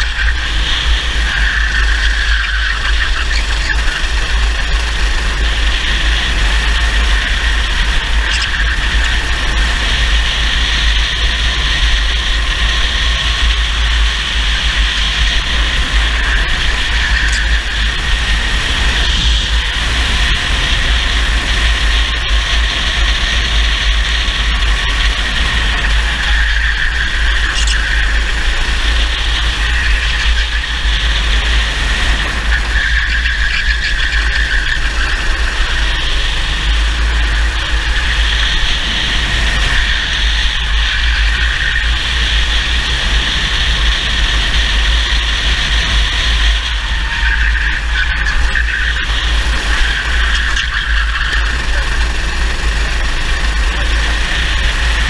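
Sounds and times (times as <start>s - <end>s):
kart engine running at speed: 0.0s - 55.0s
steady low rumble: 0.0s - 55.0s.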